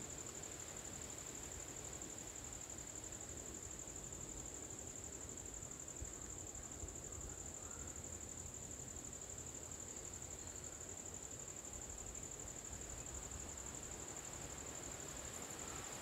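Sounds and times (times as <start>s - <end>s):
insects trilling: 0.7s - 16.0s.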